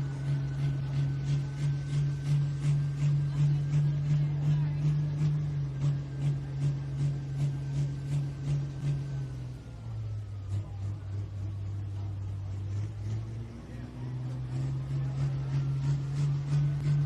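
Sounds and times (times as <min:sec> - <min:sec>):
diesel engine running hard: 0:00.0 - 0:17.0.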